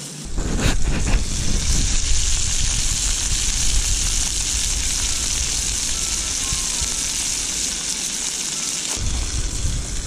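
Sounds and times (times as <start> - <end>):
gas stove rumble: 0.3 - 7.4, 9.0 - 10.0
sausages sizzling in a frying pan: 0.8 - 10.0.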